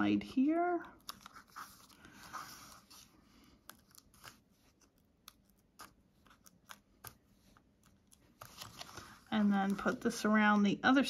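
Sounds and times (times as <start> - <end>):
paper rustling: 0.9 - 10.3.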